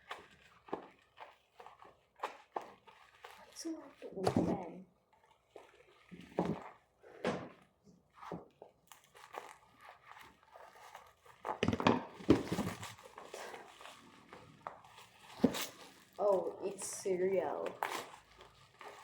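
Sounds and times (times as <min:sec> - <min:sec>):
packaging tearing and crinkling: 0:00.0 - 0:06.8, 0:08.2 - 0:19.0.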